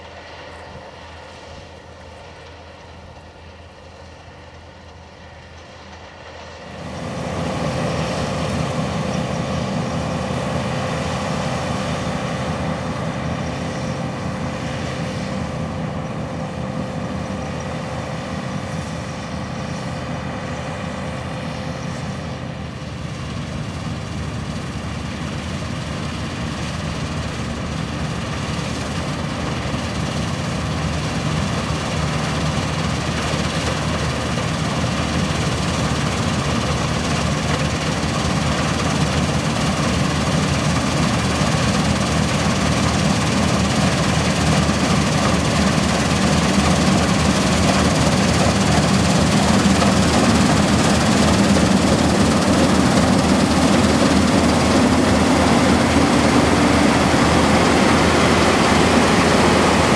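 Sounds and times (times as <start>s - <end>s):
combine harvester drone: 0.0s - 59.9s
thin machine whine: 5.3s - 59.9s.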